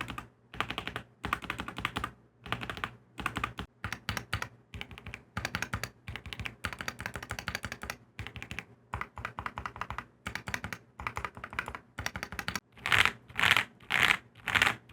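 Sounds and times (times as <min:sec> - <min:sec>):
mechanical keyboard typing: 0:00.0 - 0:14.9.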